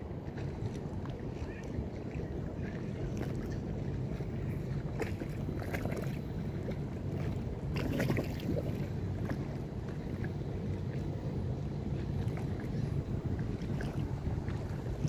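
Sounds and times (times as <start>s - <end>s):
boat engine running: 0.0s - 15.0s
water splashing against hull: 0.0s - 15.0s
wind on microphone: 0.0s - 15.0s.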